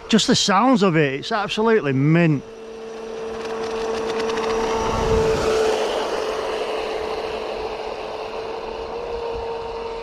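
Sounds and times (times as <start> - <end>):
rc boat motor whine: 0.0 - 10.0.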